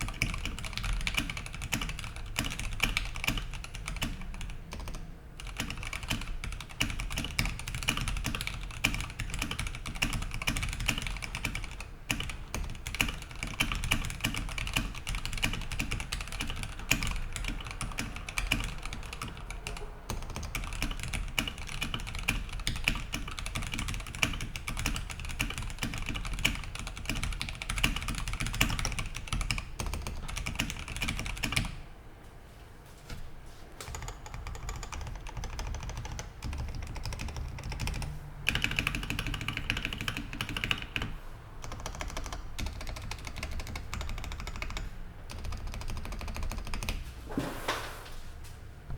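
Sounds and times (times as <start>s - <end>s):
mechanical keyboard typing: 0.0s - 31.8s, 33.8s - 47.0s.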